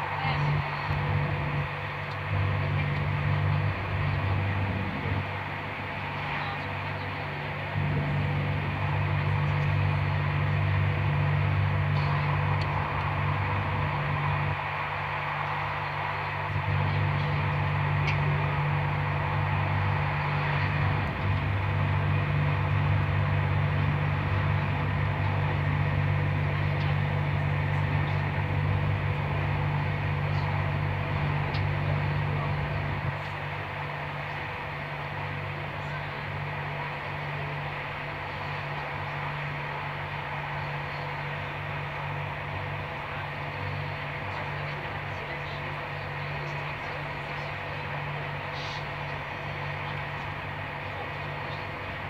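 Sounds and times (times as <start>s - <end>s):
train coach hum and rumble: 0.0s - 52.0s.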